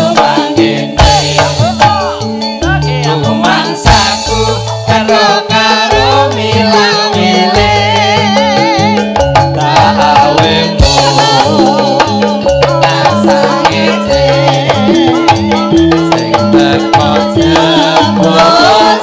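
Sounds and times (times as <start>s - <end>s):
band playing bass and drum groove: 0.0s - 19.0s
people singing: 0.0s - 19.0s
rattling percussion: 0.0s - 19.0s
wavering melody line: 0.0s - 19.0s.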